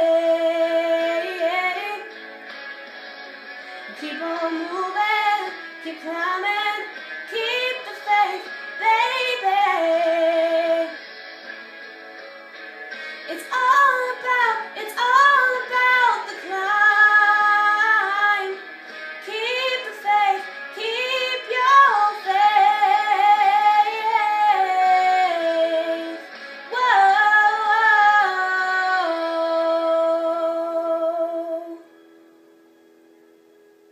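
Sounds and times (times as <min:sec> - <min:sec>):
woman singing pop ballad: 0:00.0 - 0:02.2, 0:03.6 - 0:11.0, 0:12.9 - 0:31.9.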